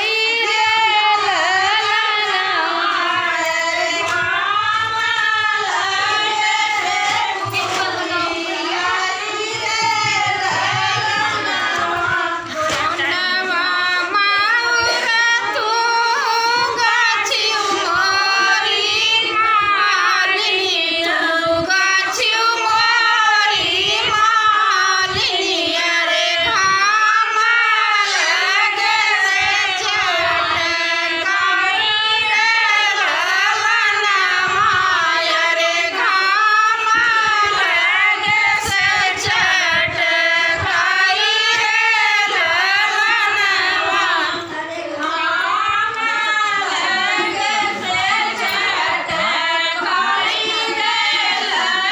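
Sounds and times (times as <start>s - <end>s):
women singing together: 0.0s - 51.9s.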